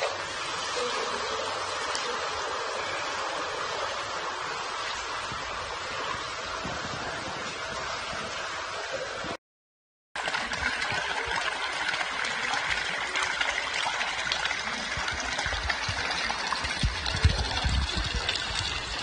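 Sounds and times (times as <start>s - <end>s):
water pouring into a bath: 0.0s - 9.4s, 10.2s - 19.0s.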